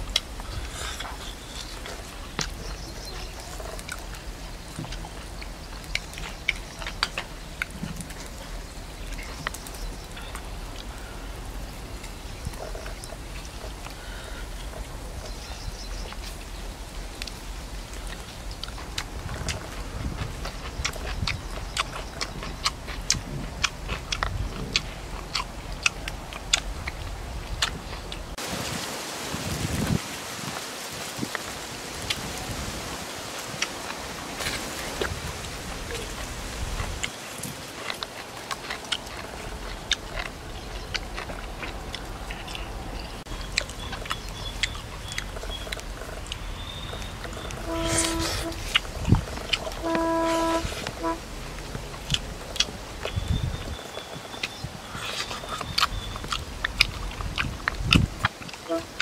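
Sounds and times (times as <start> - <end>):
man chewing food noisily: 0.0 - 28.4, 31.2 - 59.0.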